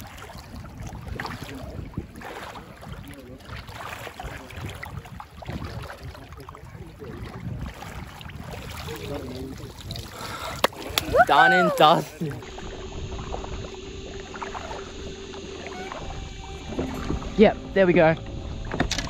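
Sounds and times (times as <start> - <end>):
small water splashes: 0.0 - 16.1
shallow water sloshing: 0.0 - 19.0.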